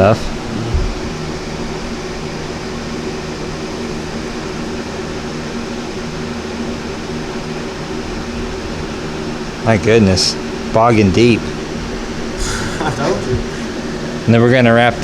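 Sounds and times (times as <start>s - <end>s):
electric blower motor humming: 0.0s - 15.0s.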